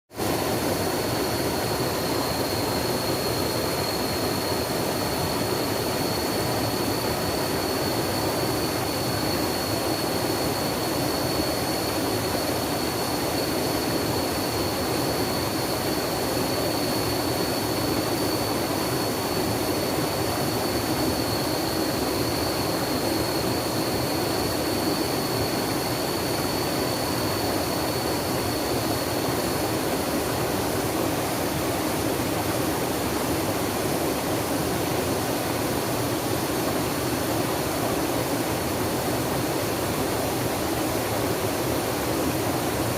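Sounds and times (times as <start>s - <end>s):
thin high steady tone: 0.2s - 42.9s.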